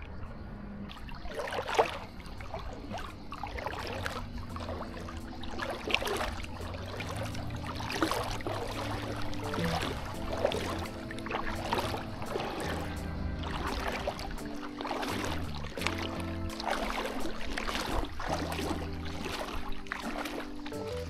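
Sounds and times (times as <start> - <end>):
low steady hum: 0.0 - 17.0
sea water splashing and lapping: 0.0 - 21.0.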